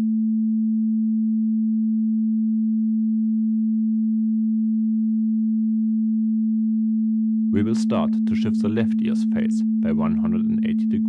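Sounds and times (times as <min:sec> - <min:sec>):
sine wave test tone: 0:00.0 - 0:11.0.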